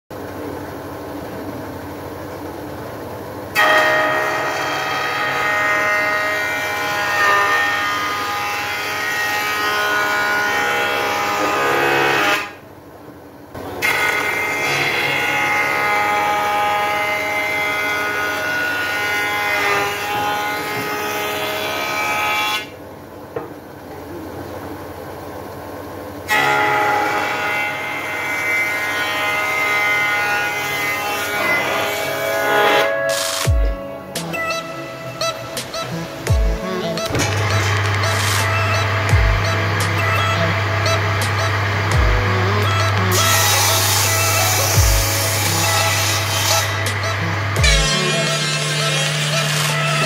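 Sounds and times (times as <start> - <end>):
woodworking machinery whining: 0.1 - 12.8, 13.6 - 50.0.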